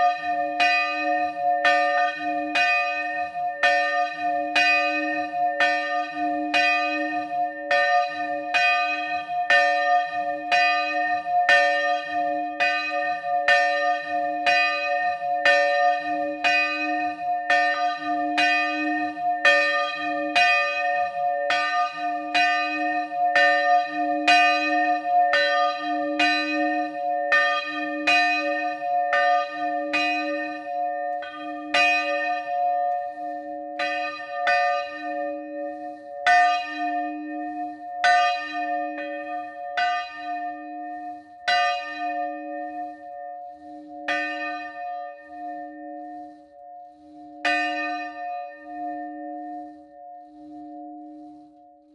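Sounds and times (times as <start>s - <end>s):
church bell ringing: 0.0s - 51.9s.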